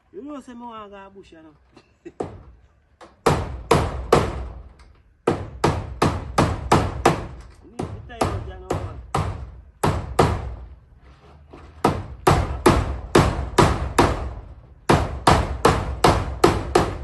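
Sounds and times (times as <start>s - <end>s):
hammer striking nails into metal roofing: 2.2s - 10.8s, 11.5s - 17.0s.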